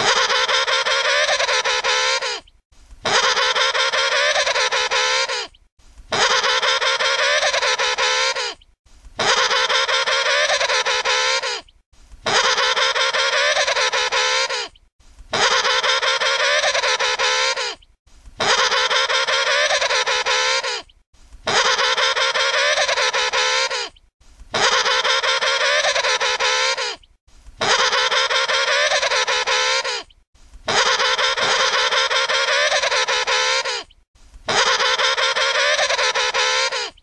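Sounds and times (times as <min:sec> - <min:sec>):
penguin trumpeting call: 0:00.0 - 0:02.4, 0:03.0 - 0:05.5, 0:06.1 - 0:08.6, 0:09.2 - 0:11.6, 0:12.2 - 0:14.7, 0:15.3 - 0:17.8, 0:18.4 - 0:20.8, 0:21.5 - 0:23.9, 0:24.5 - 0:27.0, 0:27.6 - 0:30.1, 0:30.7 - 0:33.9, 0:34.5 - 0:37.0.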